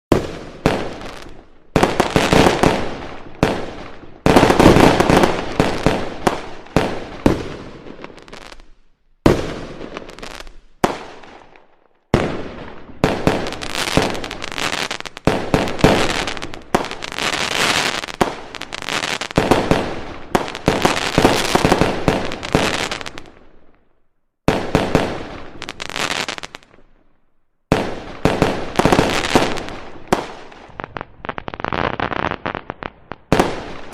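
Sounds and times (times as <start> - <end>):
fireworks cracks and bangs: 0.1 - 23.6, 24.4 - 26.9, 27.7 - 33.9.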